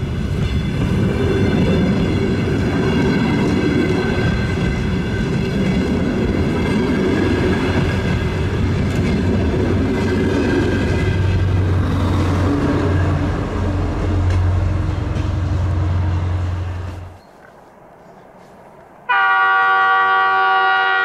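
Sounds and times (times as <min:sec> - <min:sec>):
train drone from aboard: 0:00.0 - 0:21.0.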